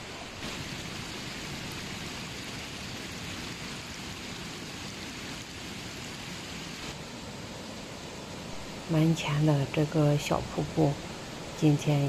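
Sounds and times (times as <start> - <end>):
rainwater rushing down road: 0.0 - 12.0.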